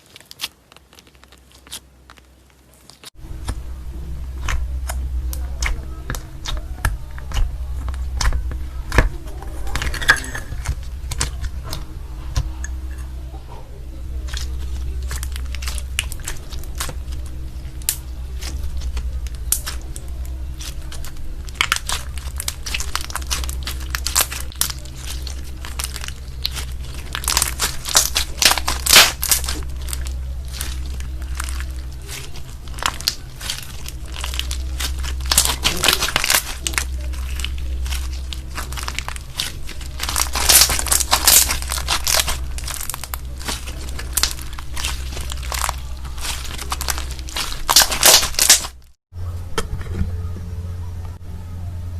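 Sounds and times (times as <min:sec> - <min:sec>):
slime crackling and popping: 0:00.0 - 0:49.0
steady low hum: 0:00.0 - 0:51.9.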